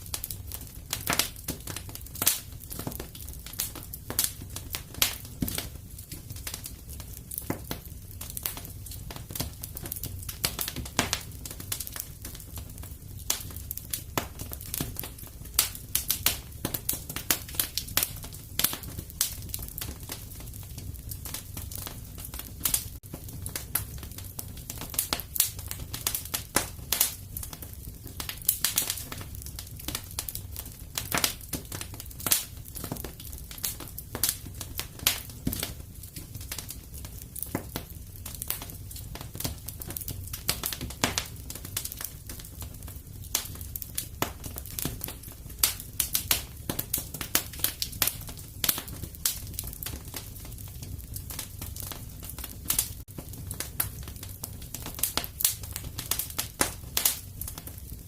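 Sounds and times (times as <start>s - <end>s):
fire low rumble: 0.0s - 58.0s
wood fire popping and snapping: 0.0s - 58.0s.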